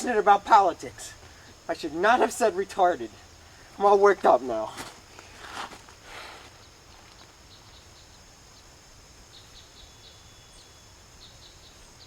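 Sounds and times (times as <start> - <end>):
high insect drone: 0.0 - 12.0
low hiss: 0.0 - 12.0.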